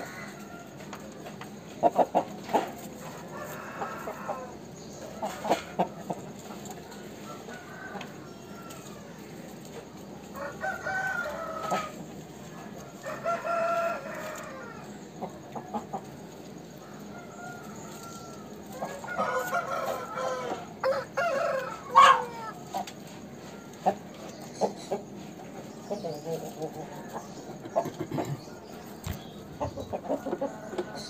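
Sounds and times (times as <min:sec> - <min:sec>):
rooster crowing and clucking: 0:00.0 - 0:31.0.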